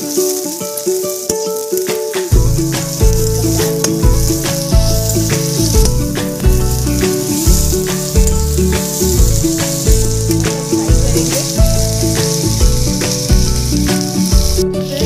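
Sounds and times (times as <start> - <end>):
background music with beat: 0.0 - 15.0
vegetables sizzling in oil: 0.0 - 15.0
spatula stirring in wok: 2.4 - 15.0.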